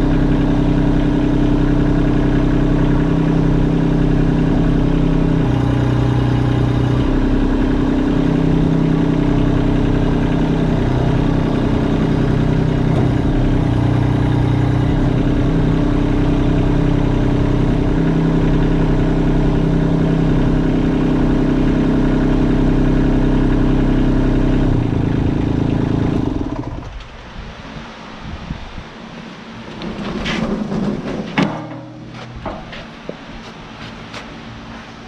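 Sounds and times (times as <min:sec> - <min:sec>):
diesel tractor engine idling: 0:00.0 - 0:35.0.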